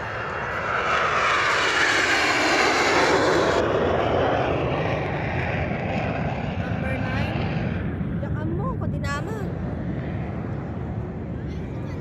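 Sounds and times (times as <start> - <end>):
aircraft engine rushing past: 0.0 - 12.0.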